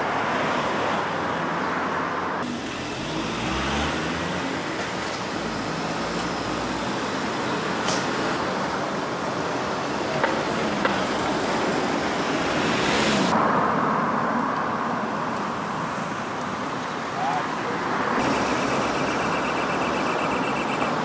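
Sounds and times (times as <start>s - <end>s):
car engines and tyre noise: 0.0s - 21.0s.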